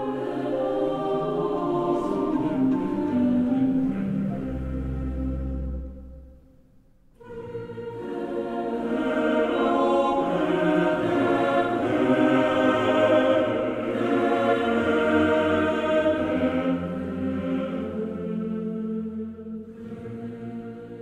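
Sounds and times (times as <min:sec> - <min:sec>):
slow choral chords: 0:00.0 - 0:21.0.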